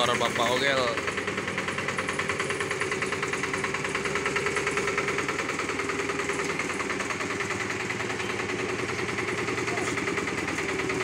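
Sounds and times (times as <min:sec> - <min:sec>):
small roller engine chugging: 0:00.0 - 0:11.0.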